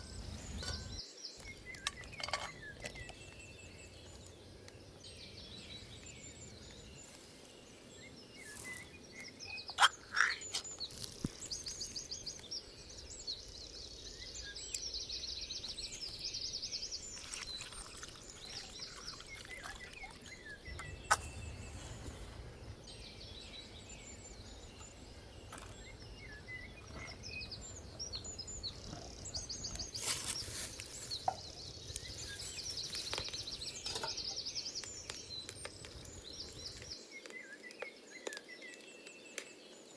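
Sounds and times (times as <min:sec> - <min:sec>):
outdoor background noise: 0:00.0 - 0:39.9
songbirds singing: 0:00.0 - 0:39.9.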